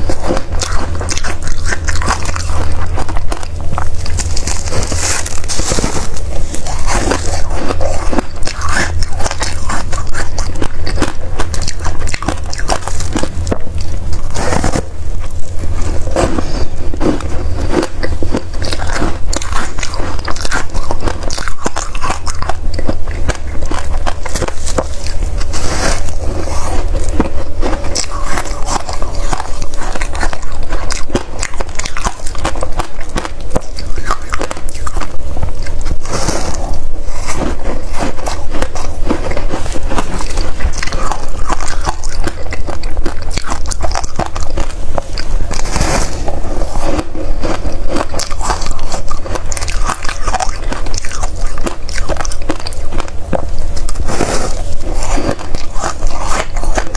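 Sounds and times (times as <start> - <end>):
crunching and chewing frost: 0.0 - 56.9.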